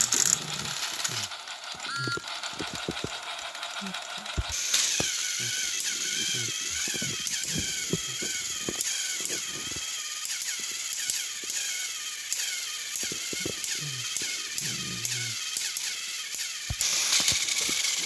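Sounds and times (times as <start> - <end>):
sharp clicks: 0.0 - 18.0
toy motor whine: 0.0 - 18.0.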